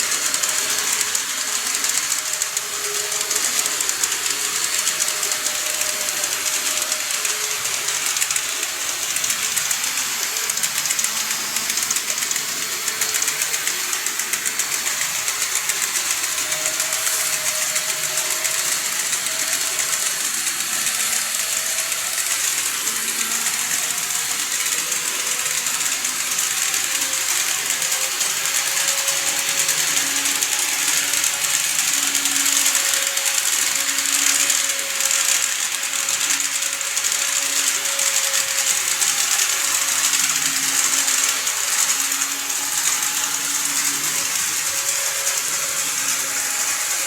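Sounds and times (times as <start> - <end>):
faint motor whine: 0.0 - 47.0
model train wheels rattling on rails: 0.0 - 47.0.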